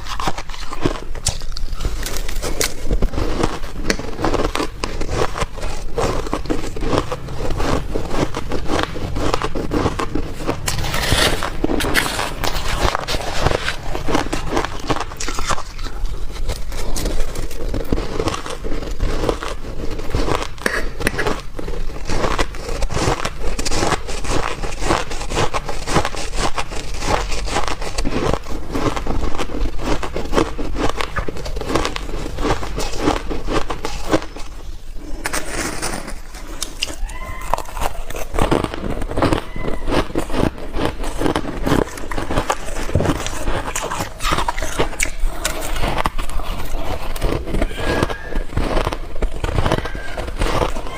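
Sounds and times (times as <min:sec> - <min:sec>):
chewing crunchy ice: 0:00.0 - 0:50.9.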